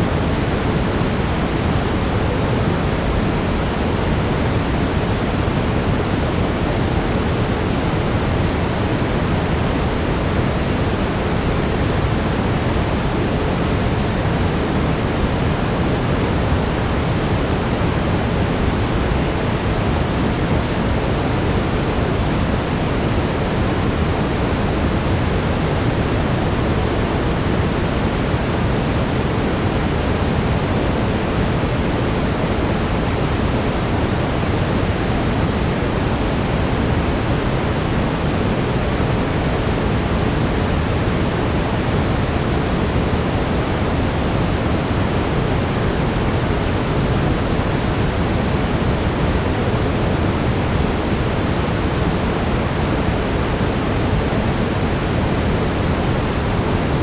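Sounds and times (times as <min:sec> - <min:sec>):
brown noise rushing hiss: 0:00.0 - 0:57.0.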